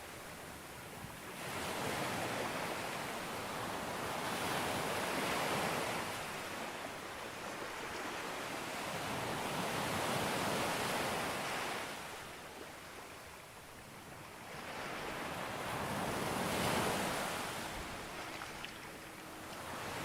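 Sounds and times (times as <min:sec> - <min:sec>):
sea waves breaking on a beach: 0:00.0 - 0:20.0.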